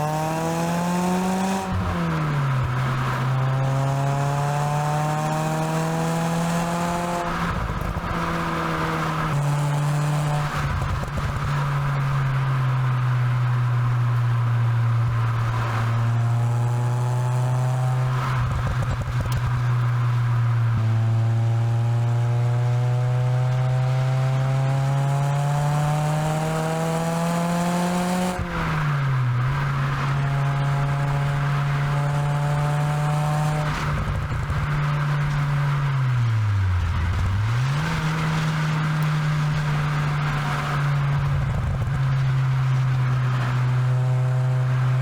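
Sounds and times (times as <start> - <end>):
car engine accelerating: 0.0 - 45.0.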